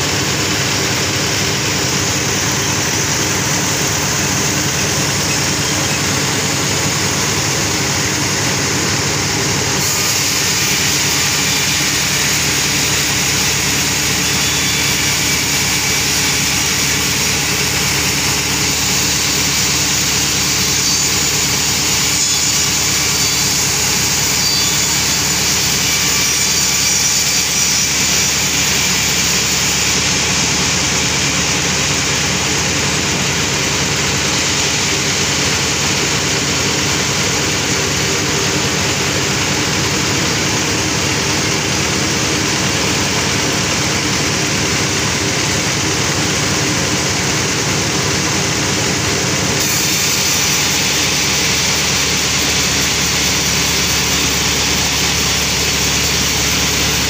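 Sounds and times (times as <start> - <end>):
sawmill saw and engine running: 0.0 - 57.0.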